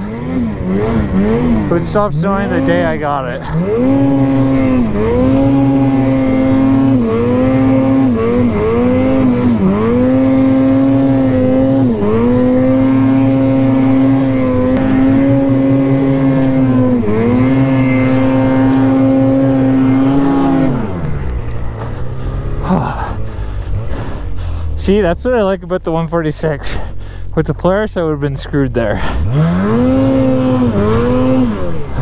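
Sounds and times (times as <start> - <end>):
snowmobile engine at high revs: 0.0 - 32.0.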